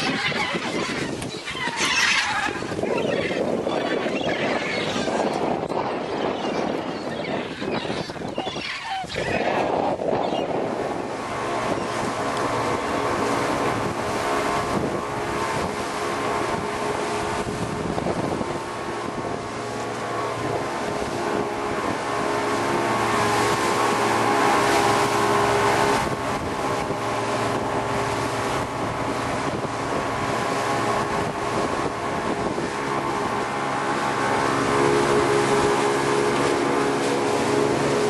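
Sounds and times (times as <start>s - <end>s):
outboard motor drone: 0.0s - 38.0s
rushing boat wake: 0.0s - 38.0s
wind buffeting microphone: 0.0s - 38.0s.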